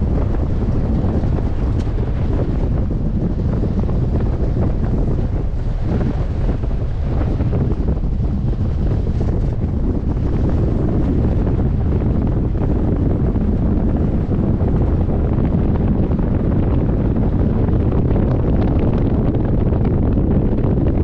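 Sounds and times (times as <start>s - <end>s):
vehicle rumbling on gravel: 0.0s - 19.8s
wind buffeting microphone: 0.0s - 21.0s.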